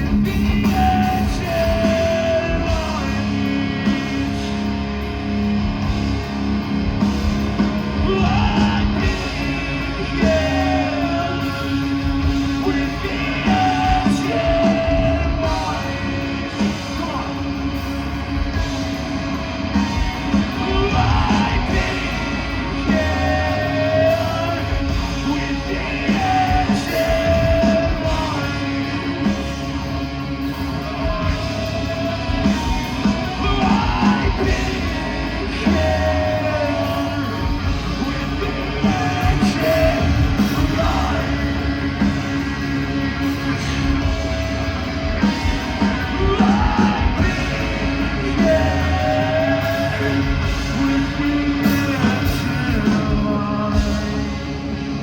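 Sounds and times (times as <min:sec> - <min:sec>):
person singing and yelling: 0:00.0 - 0:04.8, 0:07.6 - 0:55.0
distorted electric guitars: 0:00.0 - 0:55.0
drums: 0:00.0 - 0:55.0.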